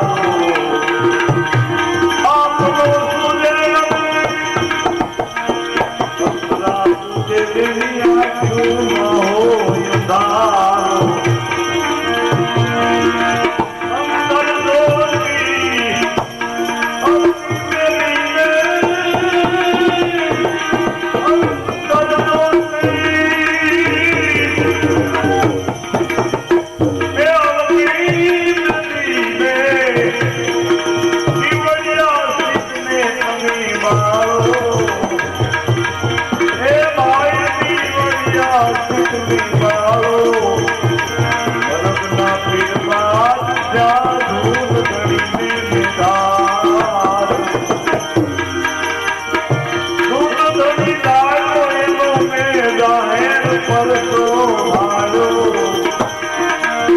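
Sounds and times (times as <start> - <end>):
gliding devotional melody: 0.0 - 56.9
tabla rhythm: 0.0 - 56.9.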